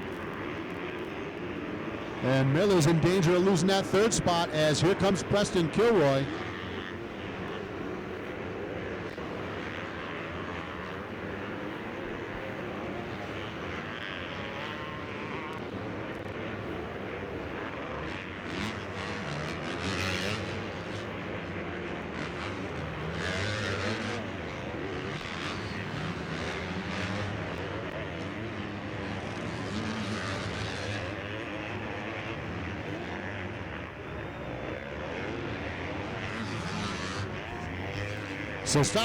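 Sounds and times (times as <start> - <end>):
motocross bike engines revving: 0.0 - 39.0.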